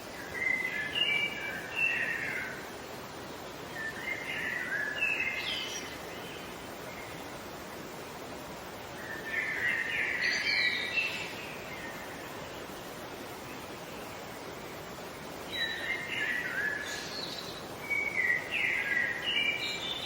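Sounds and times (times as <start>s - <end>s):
songbird singing: 0.0s - 7.9s, 8.8s - 20.0s
steady background hiss: 0.0s - 20.0s.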